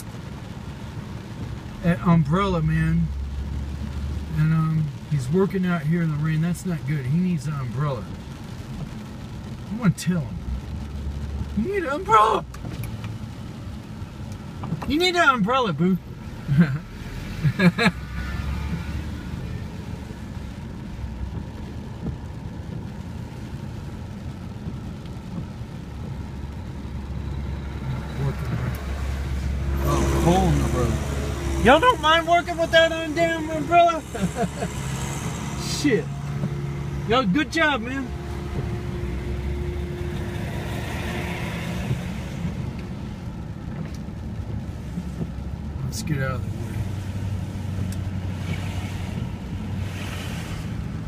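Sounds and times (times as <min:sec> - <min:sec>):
vehicle engine and tyres rumbling: 0:00.0 - 0:51.0.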